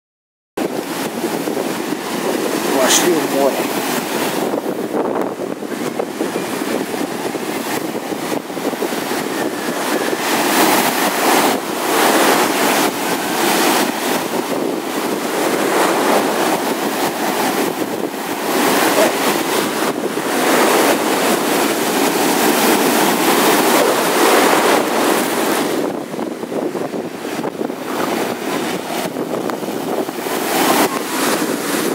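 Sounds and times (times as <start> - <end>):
waves breaking on sand: 0.6 - 31.9.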